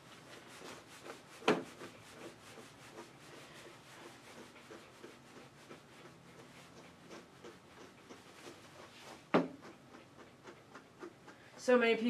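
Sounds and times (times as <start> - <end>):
brush rubbing through fur: 0.0 - 12.0.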